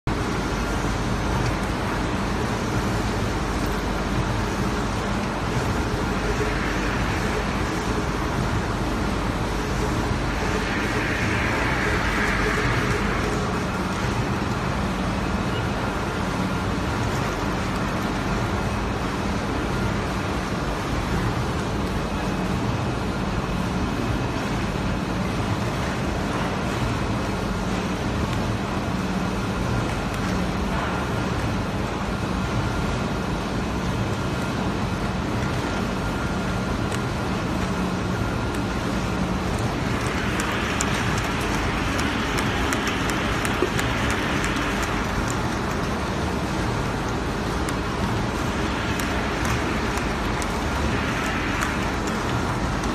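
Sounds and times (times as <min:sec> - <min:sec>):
machine whirring with low hum: 0:00.0 - 0:52.9.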